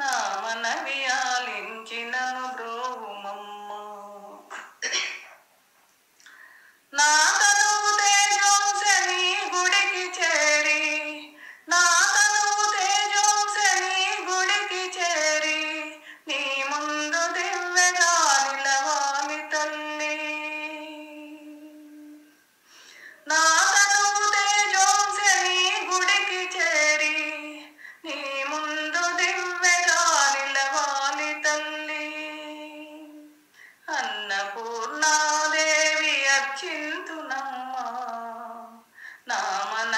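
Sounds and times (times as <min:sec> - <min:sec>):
woman singing unaccompanied: 0:00.0 - 0:04.7, 0:06.9 - 0:22.3, 0:23.2 - 0:39.9.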